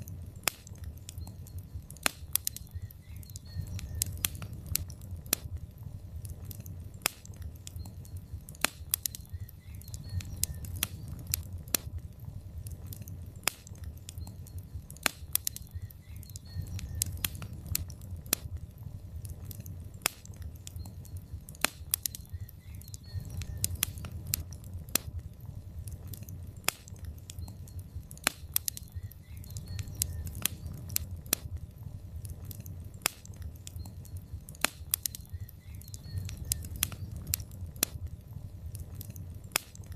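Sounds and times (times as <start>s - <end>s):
low rumble of flames: 0.0s - 39.9s
sharp pops from fire: 0.0s - 39.9s
wood fire crackling: 0.0s - 39.9s.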